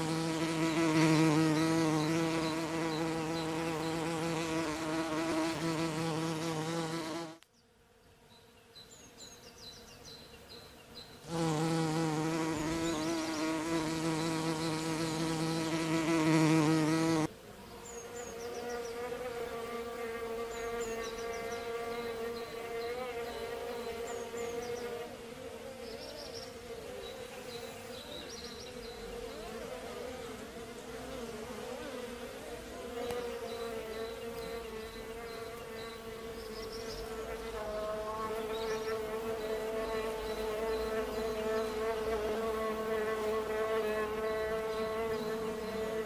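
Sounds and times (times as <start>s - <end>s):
bees buzzing: 0.0s - 7.4s, 11.1s - 46.0s.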